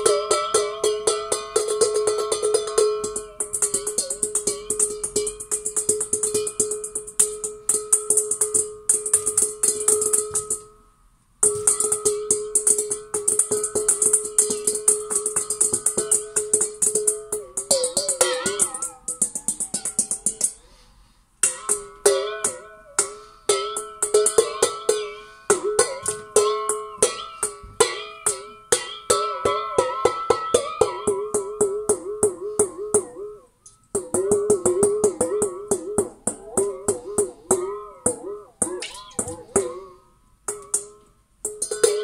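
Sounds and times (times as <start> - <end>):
metal bowl tapped by hand: 0.0 - 10.8, 11.4 - 20.6, 21.4 - 42.0.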